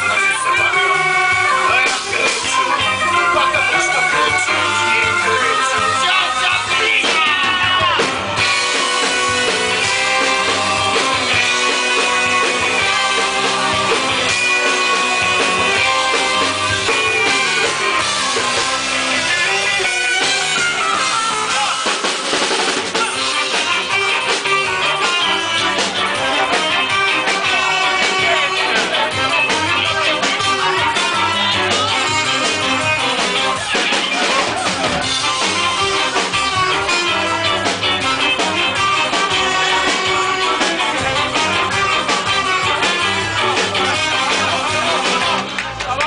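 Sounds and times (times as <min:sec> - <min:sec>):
drum kit beat: 0:00.0 - 0:46.0
electric guitar: 0:00.0 - 0:46.0
saxophone and horns: 0:00.0 - 0:46.0.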